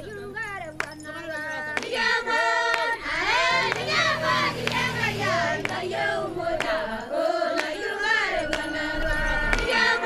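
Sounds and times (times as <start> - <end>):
women singing together: 0.0 - 10.0.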